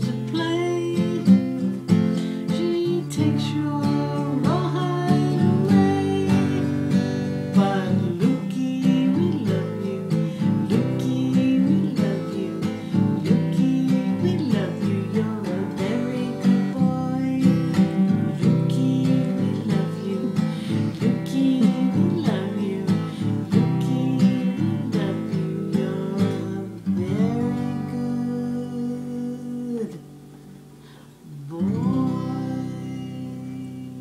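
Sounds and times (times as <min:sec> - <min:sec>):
woman singing: 0:00.0 - 0:30.2, 0:31.2 - 0:34.0
strummed acoustic guitar: 0:00.0 - 0:34.0.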